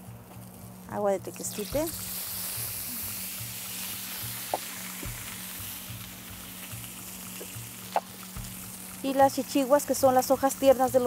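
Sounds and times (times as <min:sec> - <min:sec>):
water sizzling on hot griddle: 0:00.0 - 0:11.0.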